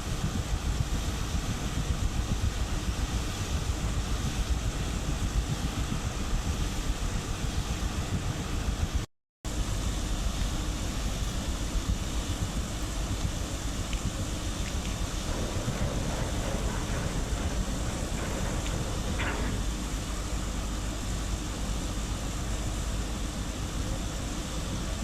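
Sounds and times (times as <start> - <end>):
wind buffeting microphone: 0.0 - 23.0
steady low rumble: 0.0 - 24.9.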